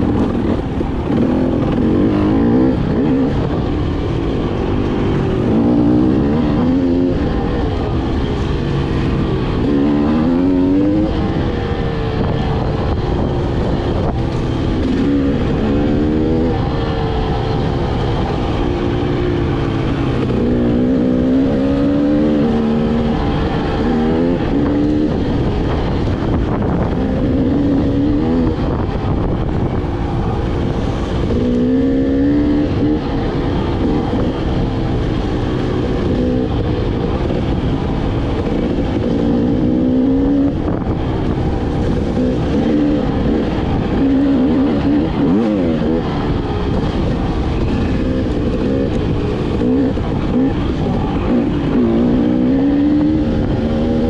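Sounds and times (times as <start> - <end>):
dirt bike engine revving: 0.0 - 54.0
wind rushing: 0.0 - 54.0.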